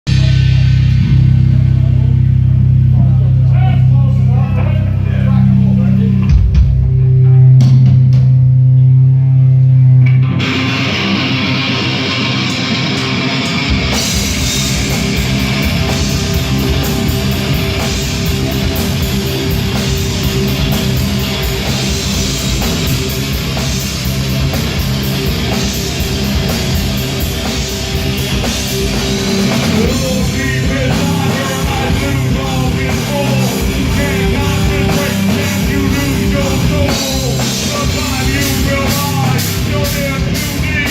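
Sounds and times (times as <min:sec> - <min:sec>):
rock band playing: 0:00.0 - 0:40.9
sustained low distorted guitar note: 0:00.1 - 0:40.9.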